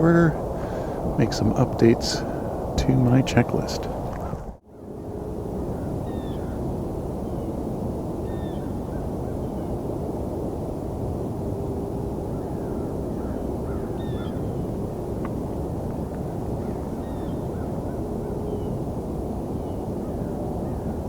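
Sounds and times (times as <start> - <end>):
distant highway traffic rumble: 0.0 - 21.0.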